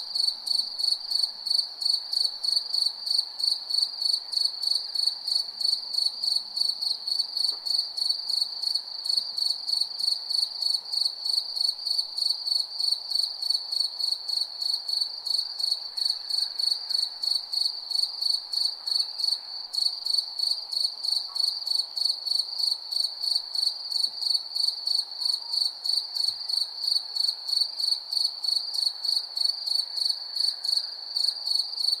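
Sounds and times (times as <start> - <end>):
faint background hiss: 0.0 - 32.0
crickets chirping: 0.1 - 32.0.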